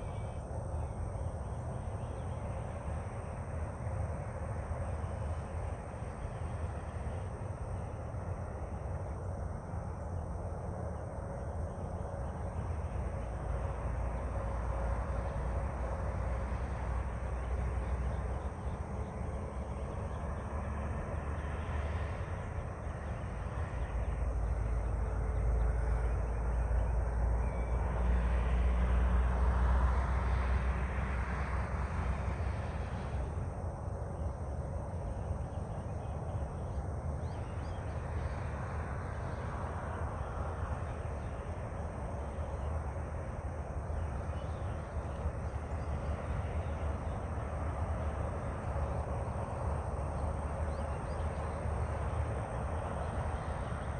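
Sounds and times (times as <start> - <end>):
low outdoor rumble: 0.0 - 53.9.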